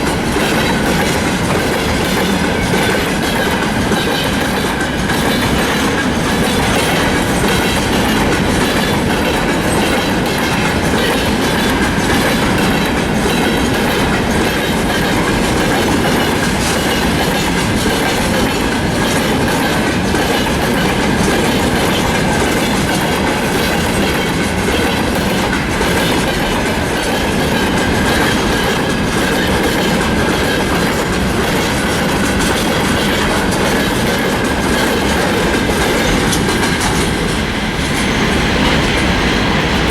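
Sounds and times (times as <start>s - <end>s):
freight train wagons rumbling past: 0.0s - 39.9s
wheels clattering on rails: 0.0s - 39.9s.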